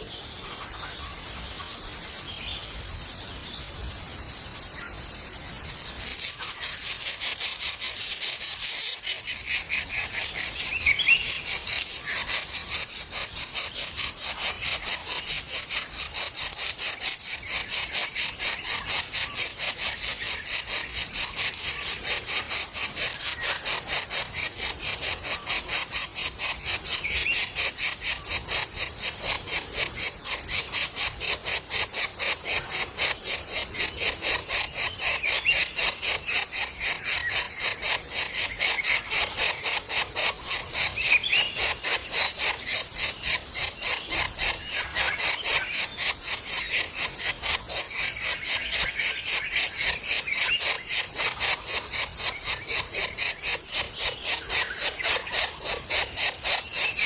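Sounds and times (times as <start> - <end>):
insect calling in rasping pulses: 4.1 - 57.0.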